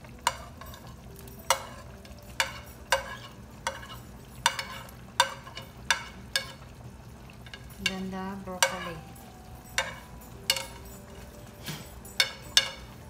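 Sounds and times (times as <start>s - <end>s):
fork clinking on ceramic plate: 0.2s - 6.6s, 8.6s - 13.0s.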